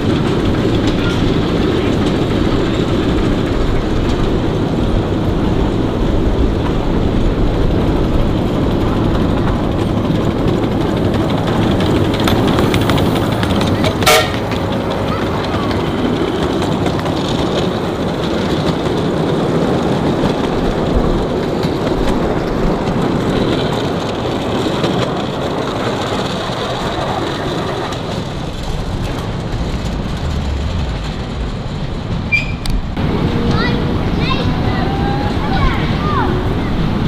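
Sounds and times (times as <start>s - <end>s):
miniature steam train running past: 0.0s - 37.0s.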